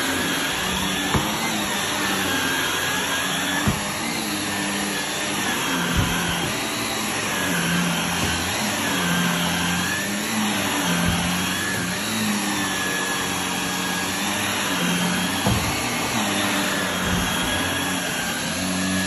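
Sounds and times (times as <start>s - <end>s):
vacuum cleaner running on carpet: 0.0s - 19.0s.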